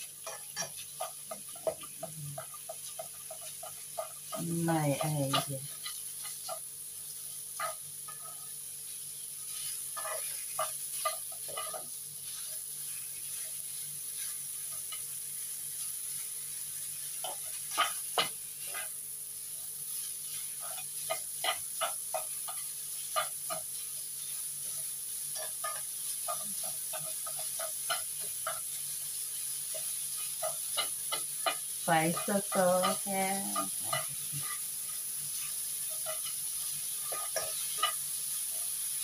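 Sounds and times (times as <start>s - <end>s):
meat sizzling in a frying pan: 0.0s - 39.0s
spatula scraping a pan: 0.0s - 39.0s.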